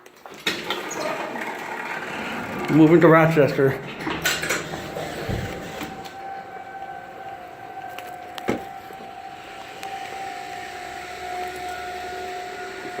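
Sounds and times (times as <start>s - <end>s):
distant warning siren wailing: 0.7s - 13.0s.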